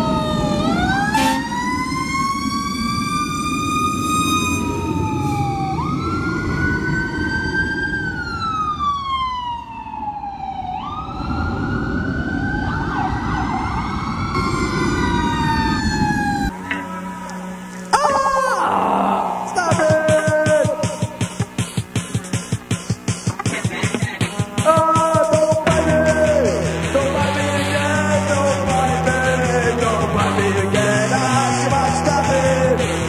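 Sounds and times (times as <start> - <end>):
emergency sirens wailing: 0.0 - 33.0
low road rumble: 0.0 - 33.0.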